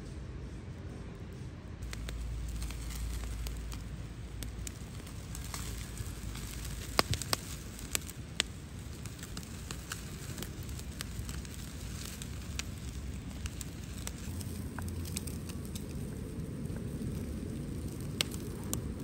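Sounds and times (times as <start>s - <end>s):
low rumble: 0.0s - 19.0s
fire crackling and popping: 0.8s - 19.0s.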